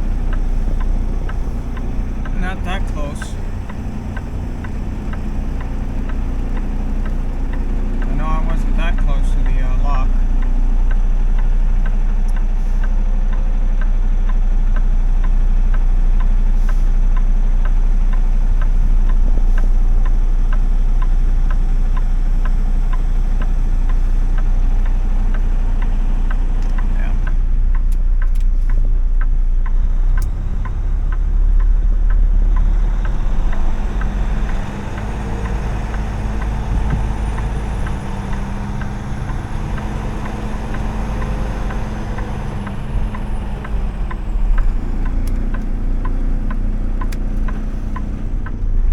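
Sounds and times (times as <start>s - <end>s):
light even ticking: 0.0s - 48.9s
truck engine and road rumble: 0.0s - 48.9s.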